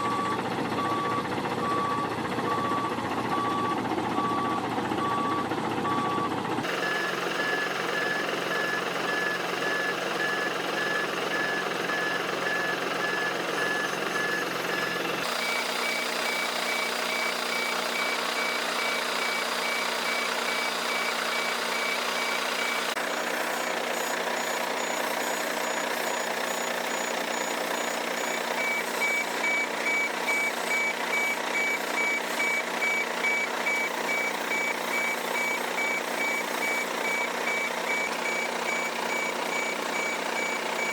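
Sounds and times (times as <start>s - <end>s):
machine engine running: 0.0s - 40.9s
vehicle warning beeper: 0.0s - 40.9s.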